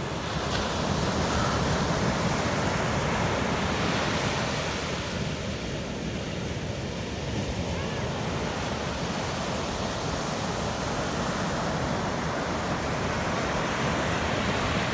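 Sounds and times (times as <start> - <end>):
ocean waves breaking on shore: 0.0 - 14.9.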